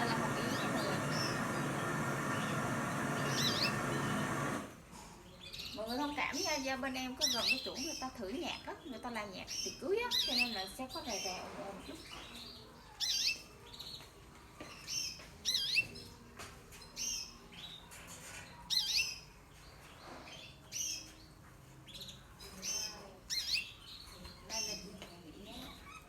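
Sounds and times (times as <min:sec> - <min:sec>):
canaries chirping: 0:00.0 - 0:26.0.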